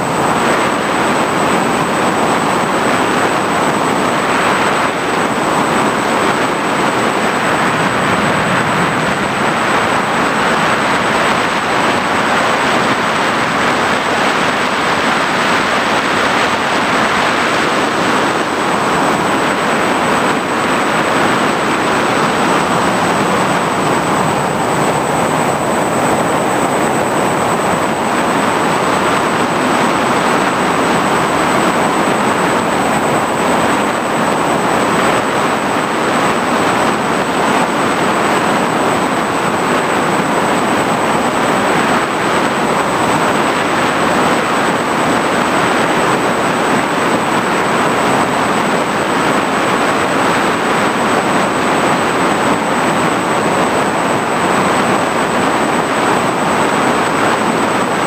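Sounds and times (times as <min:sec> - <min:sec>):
drone propeller and wind rush: 0:00.0 - 0:58.0
faint high whine: 0:00.0 - 0:58.0.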